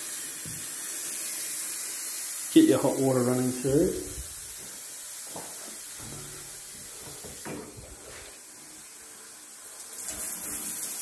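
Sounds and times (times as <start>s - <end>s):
shower spray: 0.0s - 8.6s, 9.8s - 11.0s
running water hiss: 0.0s - 11.0s.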